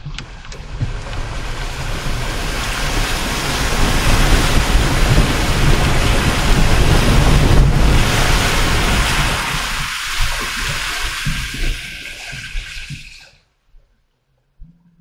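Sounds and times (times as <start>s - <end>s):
water surging and splashing: 0.0s - 13.4s.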